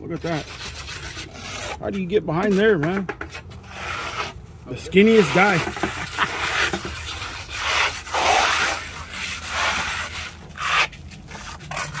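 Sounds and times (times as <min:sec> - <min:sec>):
trowel scraping stucco: 0:00.0 - 0:12.0.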